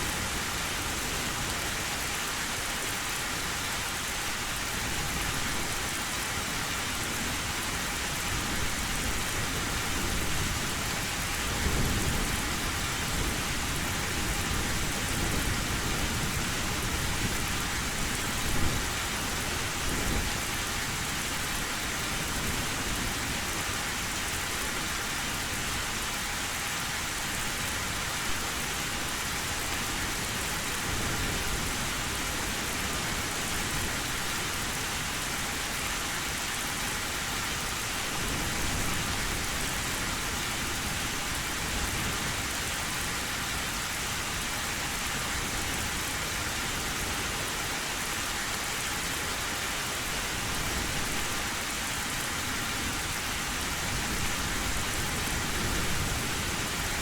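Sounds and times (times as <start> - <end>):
heavy rain on a tin roof: 0.0 - 57.0.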